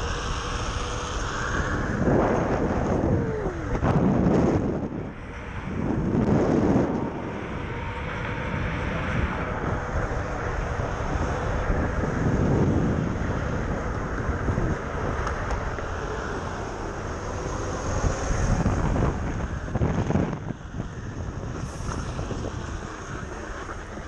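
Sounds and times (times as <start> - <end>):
traffic rumble: 0.0 - 24.0
wheels on road: 0.0 - 24.0
wind rushing over microphone: 0.0 - 24.0.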